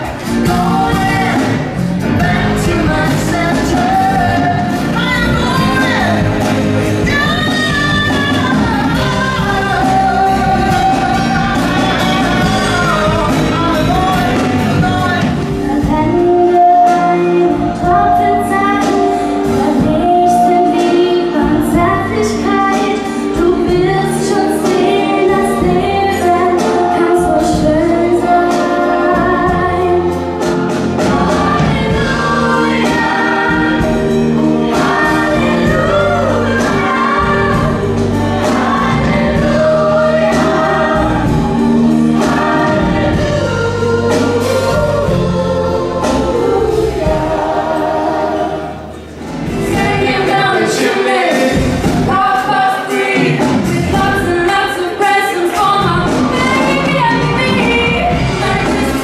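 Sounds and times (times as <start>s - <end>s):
woman singing: 0.0s - 30.3s, 31.0s - 48.7s, 49.6s - 59.0s
acoustic guitar: 0.0s - 59.0s
band with drums: 0.0s - 59.0s
choir singing: 0.0s - 59.0s.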